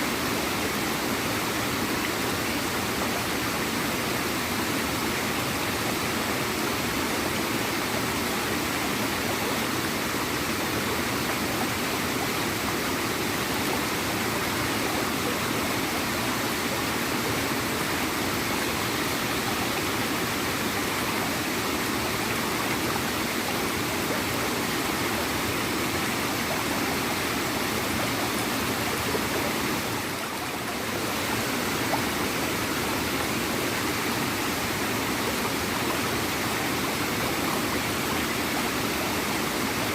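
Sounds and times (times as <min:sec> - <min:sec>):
small waterfall flowing: 0:00.0 - 0:39.9.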